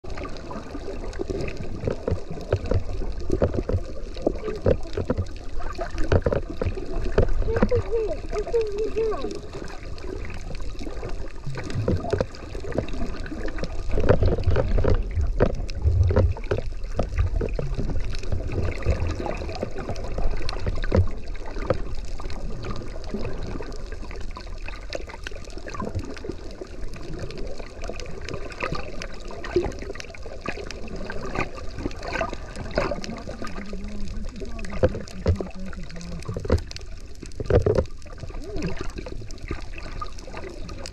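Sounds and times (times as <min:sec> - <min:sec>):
clicks and crackles: 0:00.0 - 0:40.9
underwater sloshing rumble: 0:00.0 - 0:40.9.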